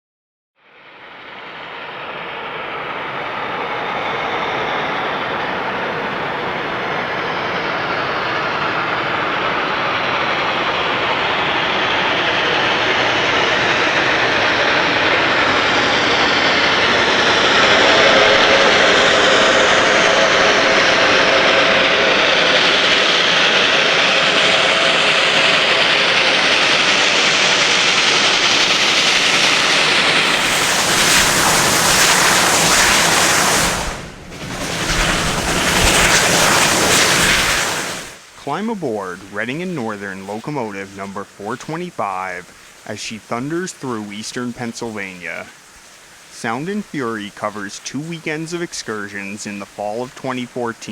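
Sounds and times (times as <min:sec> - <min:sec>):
steam locomotive working hard: 0:00.8 - 0:50.9.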